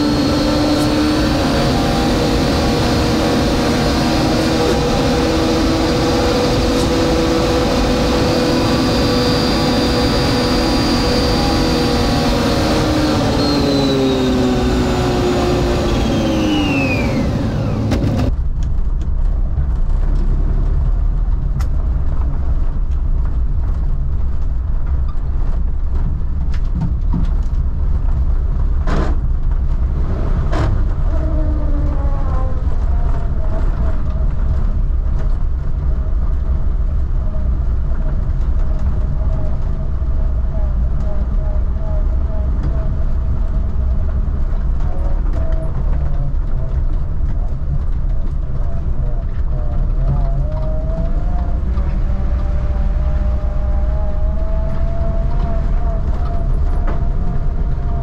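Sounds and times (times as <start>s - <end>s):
low steady rumble: 0.0s - 58.0s
vehicle engine and drivetrain whine: 0.0s - 58.0s.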